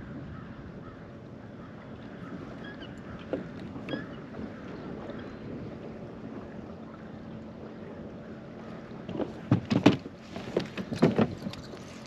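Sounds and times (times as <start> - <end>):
low wind and water: 0.0 - 12.0.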